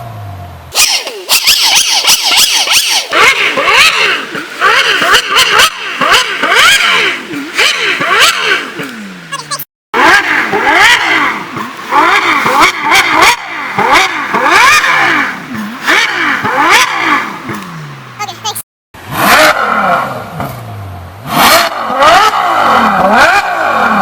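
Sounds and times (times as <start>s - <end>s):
car engines revving hard: 0.0s - 18.2s, 19.0s - 24.0s.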